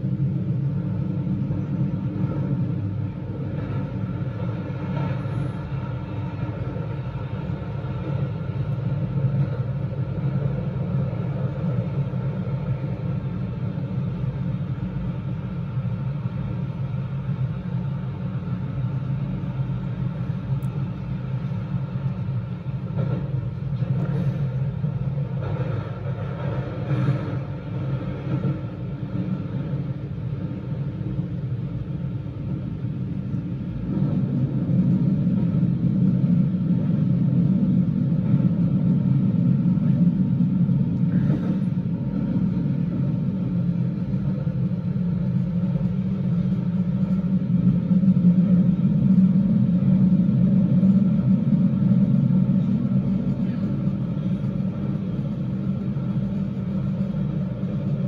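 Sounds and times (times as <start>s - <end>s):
train rumbling in tunnel: 0.0s - 58.0s.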